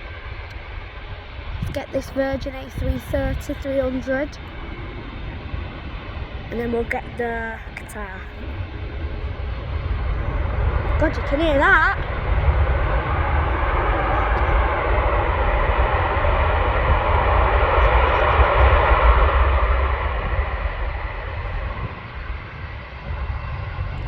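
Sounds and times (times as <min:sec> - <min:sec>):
airliner jet engines rushing: 0:00.0 - 0:24.0.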